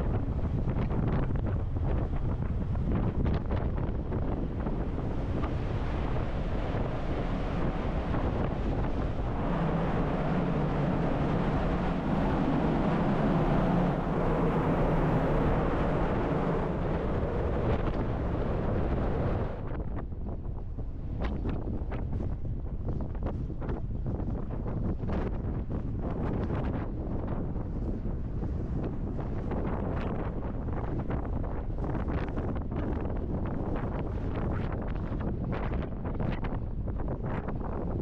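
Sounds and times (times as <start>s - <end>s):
rush of wake and ship noise: 0.0s - 38.0s
wind buffeting microphone: 0.0s - 38.0s.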